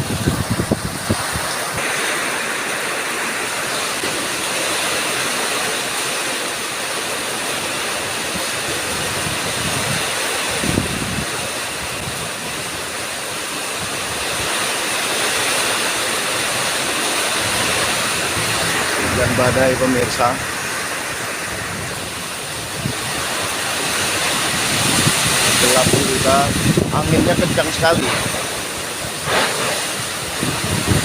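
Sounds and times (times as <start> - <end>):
heavy rain pouring: 0.0 - 31.0
strong wind: 0.0 - 31.0.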